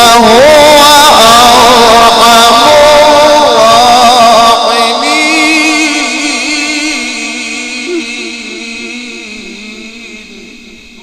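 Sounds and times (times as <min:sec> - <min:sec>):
man chanting a recitation: 0:00.0 - 0:11.0.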